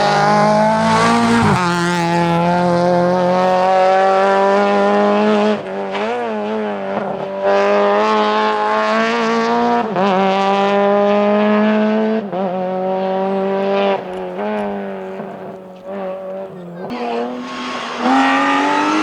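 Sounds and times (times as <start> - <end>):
rally car engine revving high: 0.0 - 19.0.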